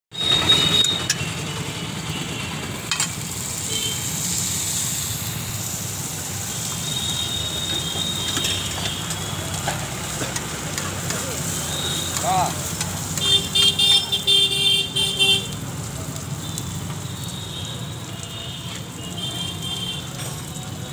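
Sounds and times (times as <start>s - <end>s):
onions sizzling in hot oil: 0.1s - 20.9s.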